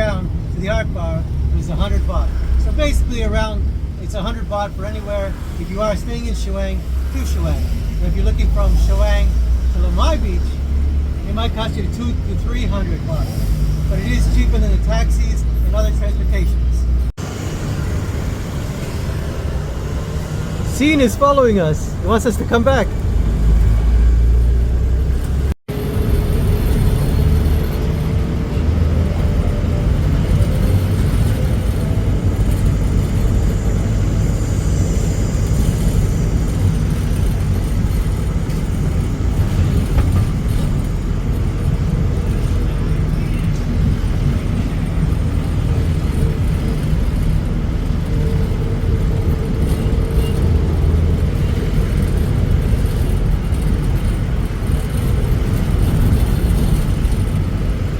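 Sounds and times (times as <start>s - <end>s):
truck engine and road rumble: 0.0s - 57.9s.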